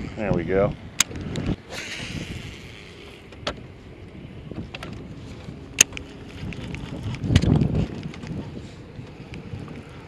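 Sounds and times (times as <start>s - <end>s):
wind over open water: 0.0s - 10.0s.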